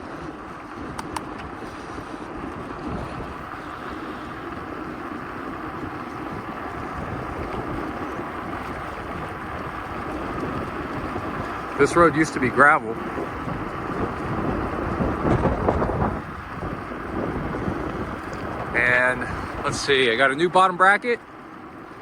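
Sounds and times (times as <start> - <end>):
bike tyres rumbling on gravel: 0.0 - 22.0
wind buffeting microphone: 0.0 - 22.0.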